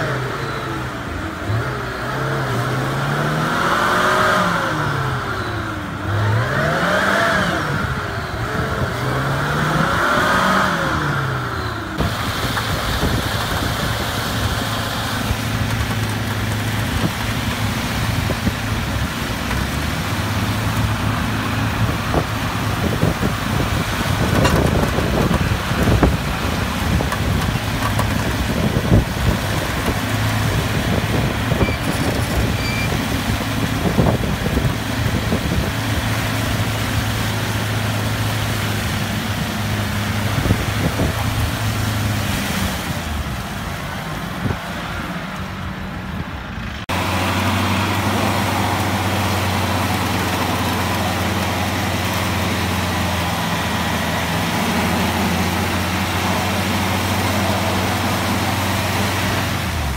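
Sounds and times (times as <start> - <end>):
off-road engine running: 0.0 - 59.9.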